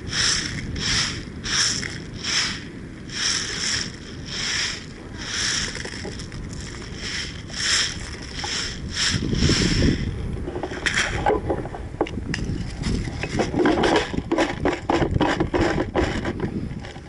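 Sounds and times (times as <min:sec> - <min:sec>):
rustling and scraping: 0:00.0 - 0:17.0
wind noise on microphone: 0:00.0 - 0:17.0.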